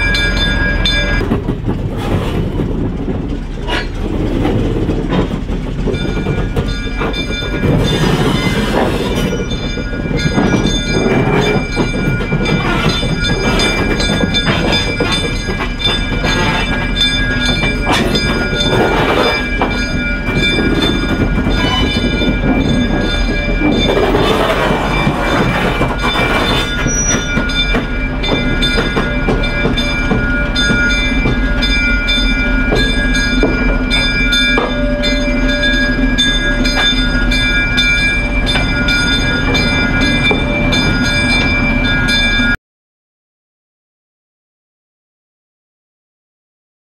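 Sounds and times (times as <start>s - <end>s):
locomotive engine running: 0.0s - 42.6s
wheels clattering on track: 0.0s - 42.6s.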